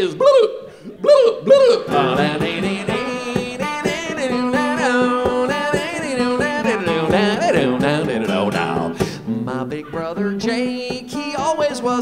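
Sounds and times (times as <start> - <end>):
man singing wordlessly: 0.0 - 12.0
acoustic guitar strumming: 1.8 - 12.0.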